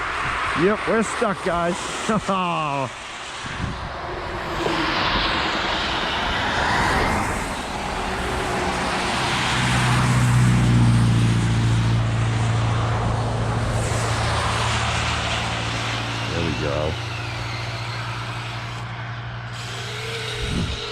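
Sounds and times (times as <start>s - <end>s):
tracks churning snow: 0.0s - 18.4s
electric motors whining: 0.9s - 10.9s, 11.7s - 20.9s.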